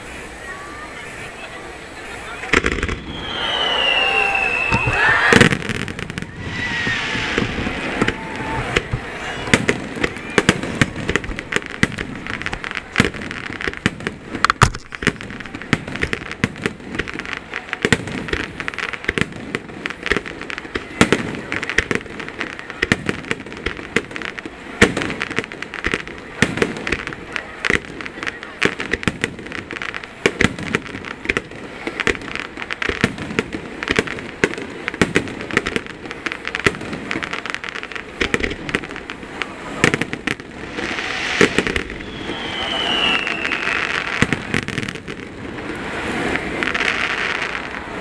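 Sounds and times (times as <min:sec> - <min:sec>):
fireworks bangs and crackles: 0:00.0 - 0:48.0.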